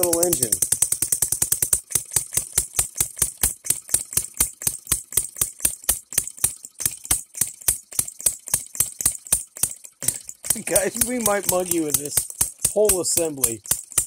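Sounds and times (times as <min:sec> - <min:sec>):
model engine firing pops: 0:00.0 - 0:14.0.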